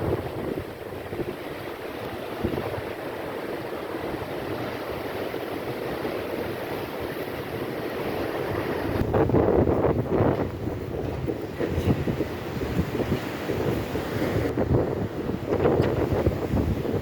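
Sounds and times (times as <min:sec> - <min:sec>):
surf crashing against embankment: 0:00.0 - 0:17.0
wind buffeting microphone: 0:00.0 - 0:17.0.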